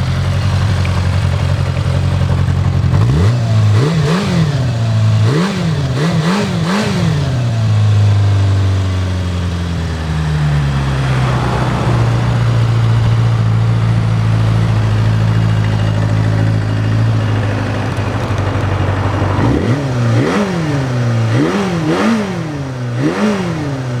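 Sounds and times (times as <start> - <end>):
motorcycle engine idling: 0.0 - 24.0
motorcycle engine revving: 0.0 - 24.0.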